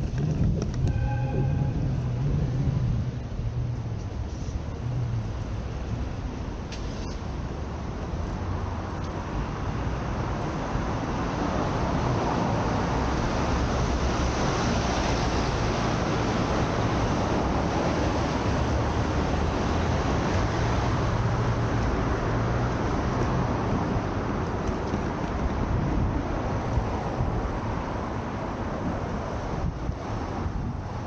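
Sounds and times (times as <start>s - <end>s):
road traffic roar: 0.0s - 31.0s.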